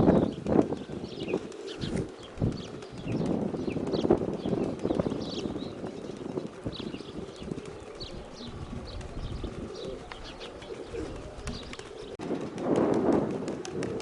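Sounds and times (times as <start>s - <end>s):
pigeons cooing: 0.0s - 12.2s, 13.2s - 14.0s
small birds chirping: 0.0s - 12.2s
wind rumble on microphone: 0.0s - 14.0s.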